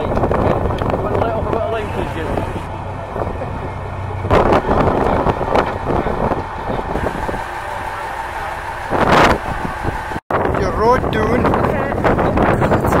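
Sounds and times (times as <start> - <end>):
boat engine running: 0.0 - 13.0
wind noise on microphone: 0.0 - 13.0.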